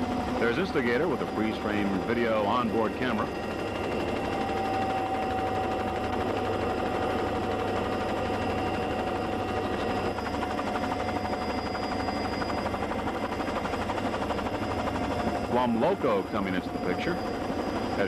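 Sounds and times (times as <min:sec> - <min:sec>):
high engine whine: 0:00.0 - 0:18.0.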